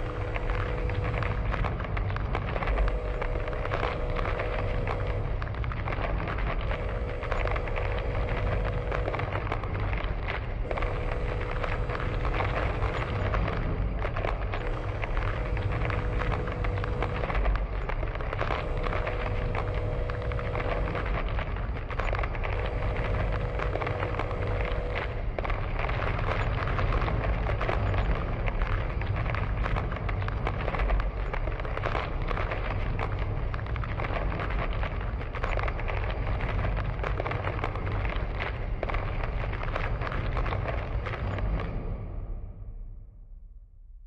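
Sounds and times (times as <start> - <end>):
crackling and crumbling noise: 0.0 - 44.0
deep earthquake rumble: 0.0 - 44.0.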